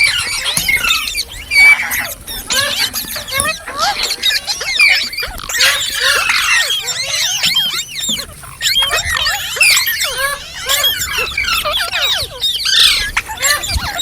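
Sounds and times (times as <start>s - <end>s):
parrot chirping and squawking: 0.0s - 14.0s.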